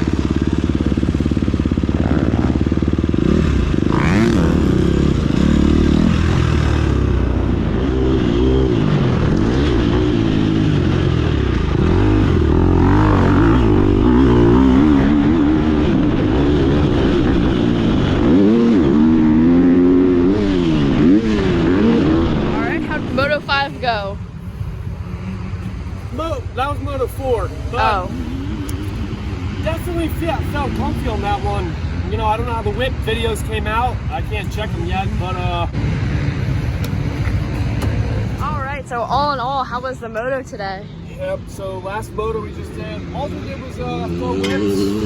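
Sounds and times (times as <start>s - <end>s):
motocross bike engine revving: 0.0s - 39.6s, 40.9s - 45.0s.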